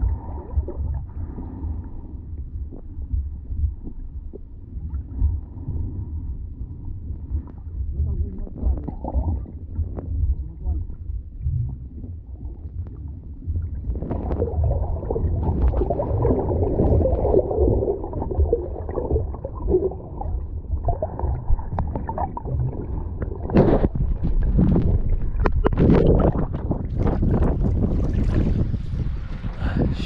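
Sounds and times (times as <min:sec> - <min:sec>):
low rumble: 0:00.0 - 0:30.0
water sloshing and gurgling: 0:00.0 - 0:30.0.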